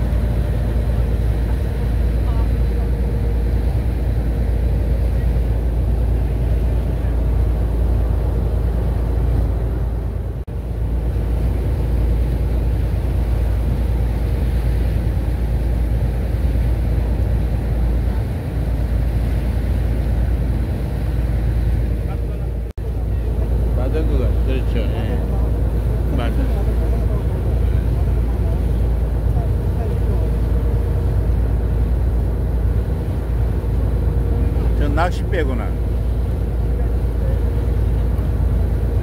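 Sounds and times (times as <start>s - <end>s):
ferry engine running: 0.0s - 39.0s
water rushing past hull: 0.0s - 39.0s.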